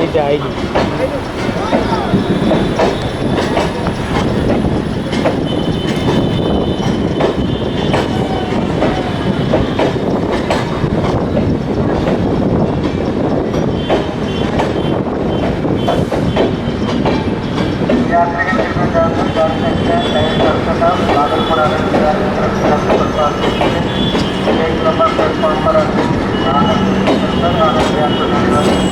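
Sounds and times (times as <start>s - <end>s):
train coaches rolling by: 0.0s - 28.9s.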